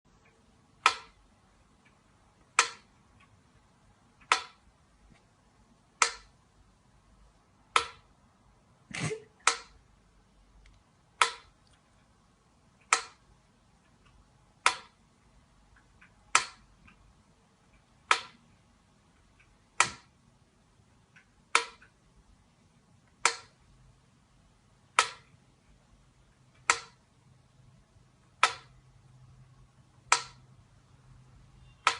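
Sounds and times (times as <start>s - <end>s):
sharp ticking clicks: 0.1s - 8.7s, 9.4s - 31.9s.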